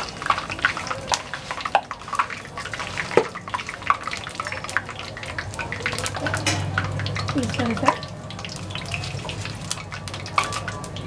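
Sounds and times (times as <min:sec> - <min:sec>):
oil crackling and sputtering: 0:00.0 - 0:11.0.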